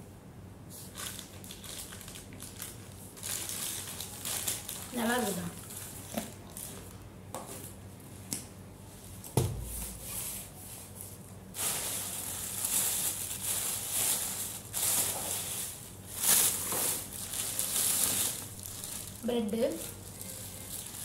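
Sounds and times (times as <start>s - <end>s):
plastic bags rustling: 0.8s - 7.0s, 9.7s - 21.0s.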